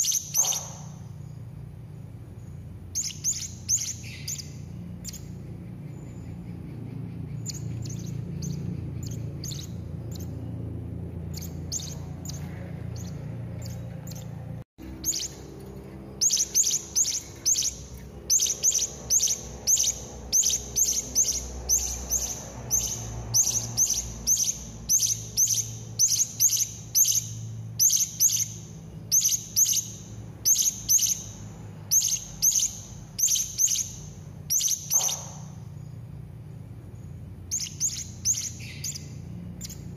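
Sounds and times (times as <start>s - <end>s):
parrots chirping: 0.0s - 1.4s, 2.3s - 36.0s, 37.0s - 39.9s
low steady hum: 0.0s - 39.9s.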